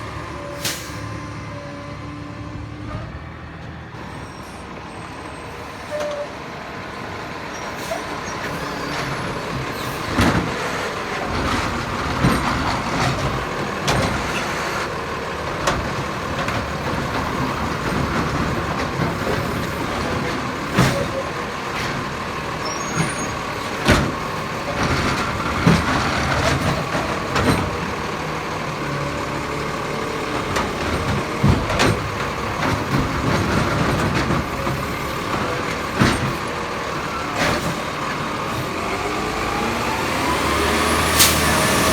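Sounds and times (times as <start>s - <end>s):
garbage truck engine running: 6.4s - 41.9s.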